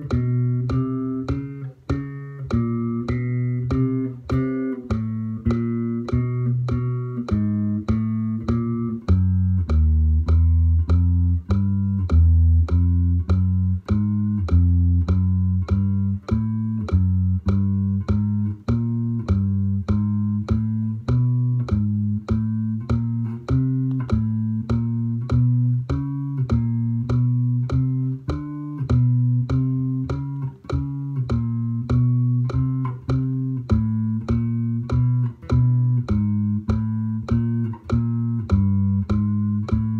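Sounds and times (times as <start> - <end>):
electric bass plucked notes: 0.0 - 39.9.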